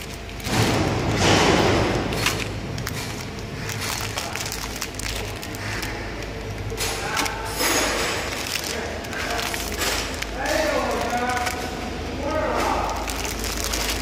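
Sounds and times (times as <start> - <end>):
low machine hum: 0.0 - 14.0
plastic film crinkling: 0.0 - 14.0.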